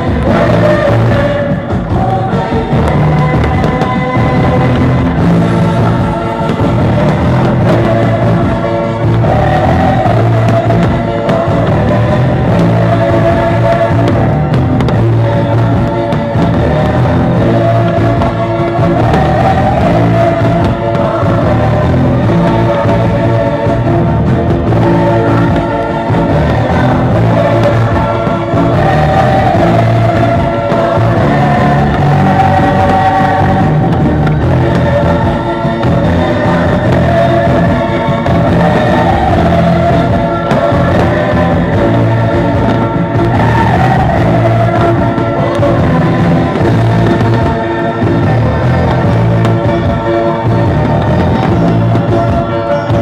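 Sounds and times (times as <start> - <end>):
loud music with held notes: 0.0 - 53.0.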